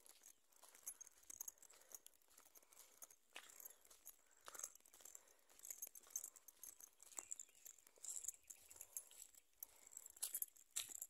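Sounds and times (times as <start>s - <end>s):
footsteps on dirt path with leaves: 0.0s - 11.0s.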